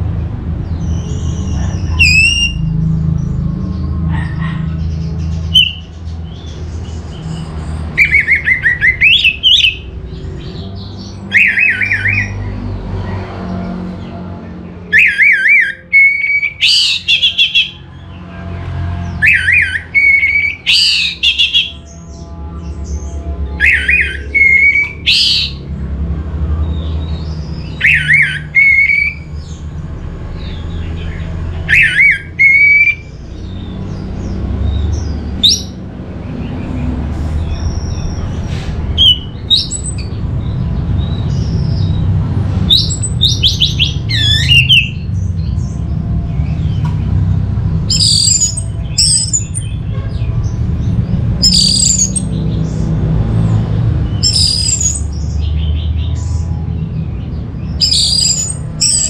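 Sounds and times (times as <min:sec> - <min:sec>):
thrush singing: 0:00.0 - 0:56.6.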